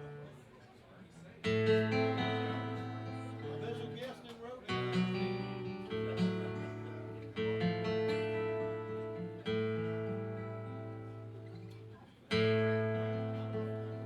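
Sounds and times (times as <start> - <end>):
acoustic guitar strumming chords: 0.0 - 0.4, 1.4 - 14.0.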